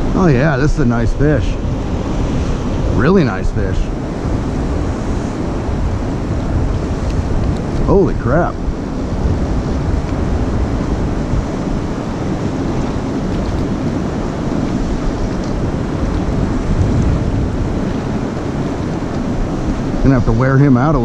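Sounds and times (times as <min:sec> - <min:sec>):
turbulent river water rushing: 0:00.0 - 0:21.0
wind buffeting microphone: 0:00.0 - 0:21.0.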